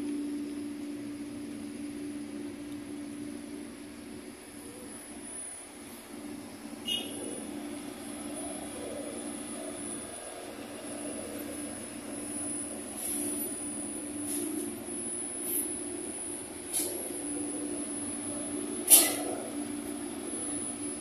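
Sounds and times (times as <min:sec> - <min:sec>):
electric bus hum and whine: 0:00.0 - 0:21.0.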